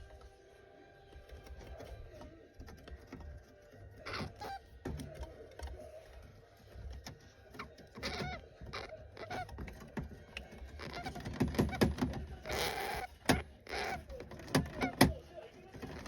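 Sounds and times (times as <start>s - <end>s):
hamster squeaking: 1.2s - 16.0s.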